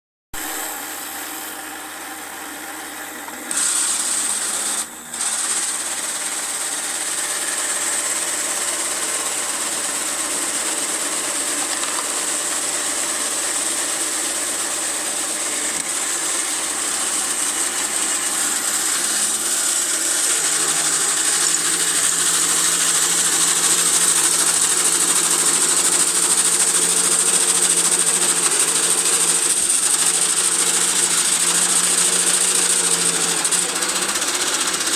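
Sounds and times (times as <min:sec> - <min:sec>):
toy mechanism whirring: 0:00.4 - 0:34.9.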